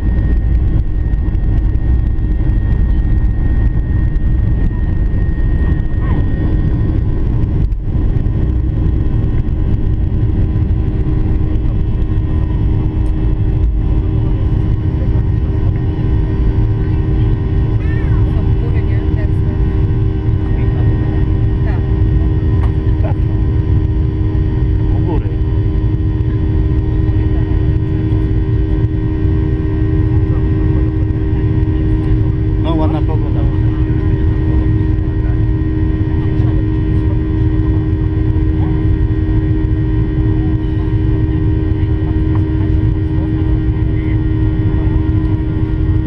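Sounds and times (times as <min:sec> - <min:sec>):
jet engine rumble in cabin: 0:00.0 - 0:46.0
steady engine tones: 0:00.0 - 0:46.0.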